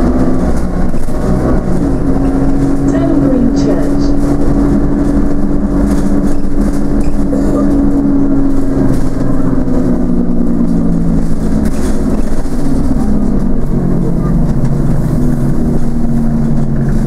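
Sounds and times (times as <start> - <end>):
bus engine droning: 0.0 - 17.0
road noise: 0.0 - 17.0.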